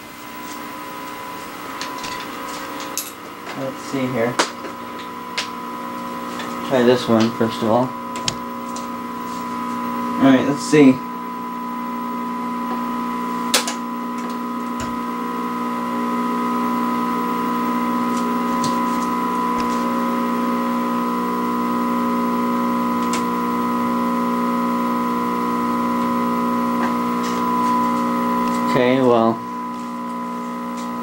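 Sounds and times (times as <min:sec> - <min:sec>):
buzzing hum from tv speaker: 0:00.0 - 0:31.0.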